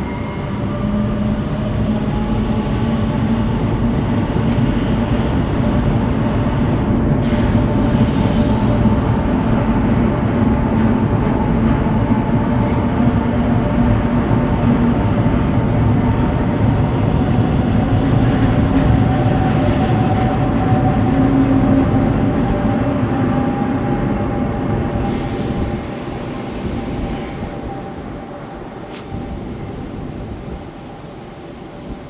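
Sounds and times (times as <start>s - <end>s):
train humming tones: 0.0s - 32.0s
train rail rumble: 0.0s - 32.0s.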